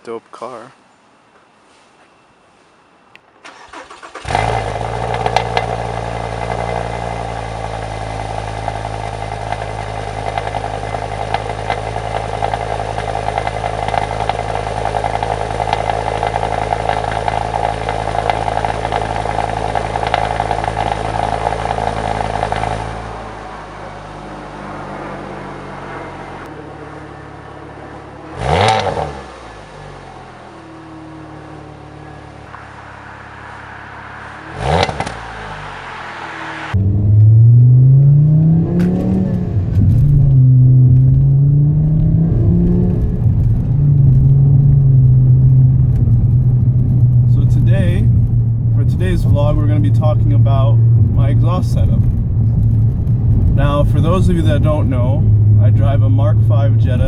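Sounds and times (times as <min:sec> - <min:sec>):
car engine idling: 0:03.2 - 0:57.0
car engine starting: 0:03.3 - 0:57.0
engine revving: 0:03.5 - 0:57.0.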